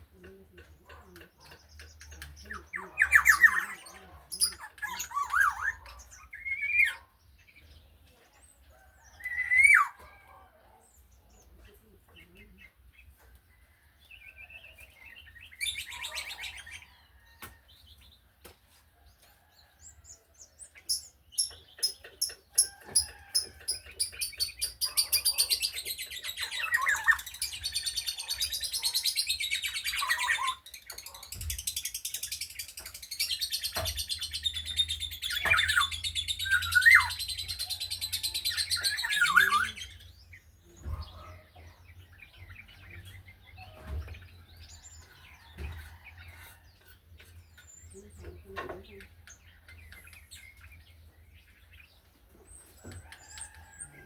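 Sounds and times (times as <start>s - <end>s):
bird singing with trills: 0.0s - 10.2s, 12.2s - 18.2s, 19.4s - 54.0s.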